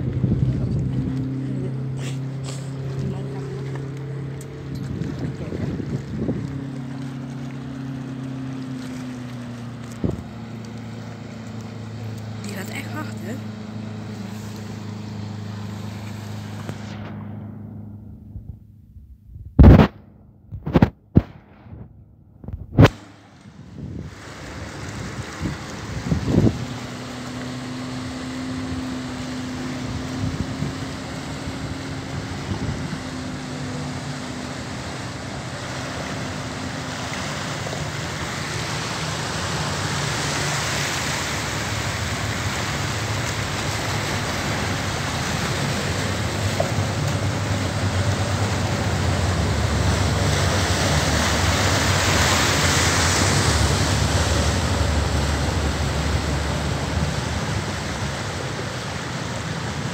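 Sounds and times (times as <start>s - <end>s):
river water splashing against stone: 0.0s - 17.8s, 19.6s - 59.9s
barge engine hum: 0.0s - 59.9s.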